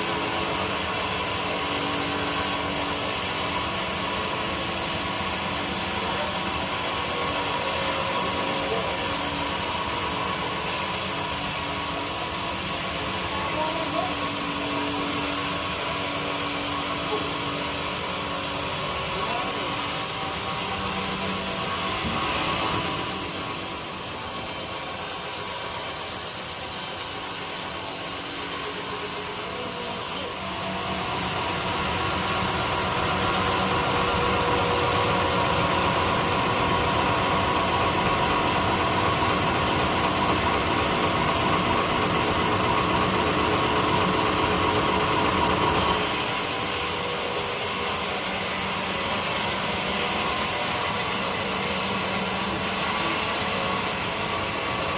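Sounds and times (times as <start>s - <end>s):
power tool running on wood: 0.0s - 54.9s.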